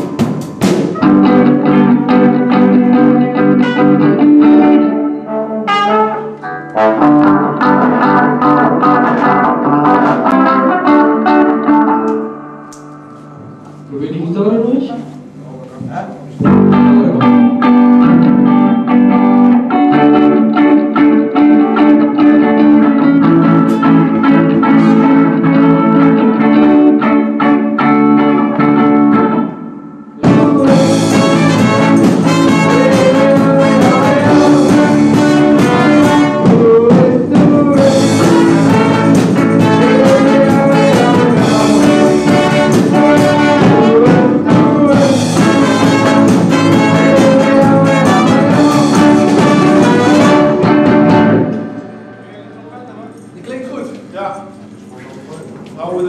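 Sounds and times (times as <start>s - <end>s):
music with brass-like lead: 0.0s - 13.8s, 16.4s - 52.2s
live rock band playing: 0.0s - 13.9s, 16.4s - 53.4s.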